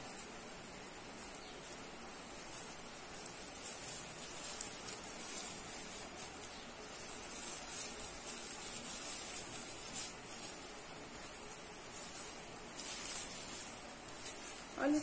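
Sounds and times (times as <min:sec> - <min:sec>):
tinsel garland rustling: 0:00.0 - 0:15.0.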